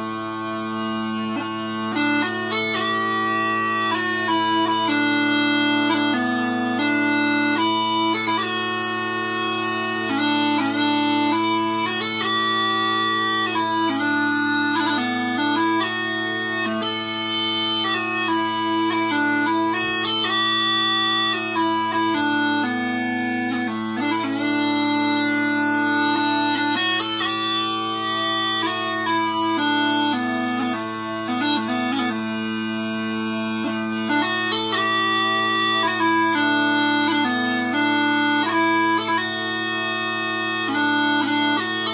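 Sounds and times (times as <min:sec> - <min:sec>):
bagpipe chanter melody: 0:00.0 - 0:41.9
bagpipe drone: 0:00.0 - 0:41.9.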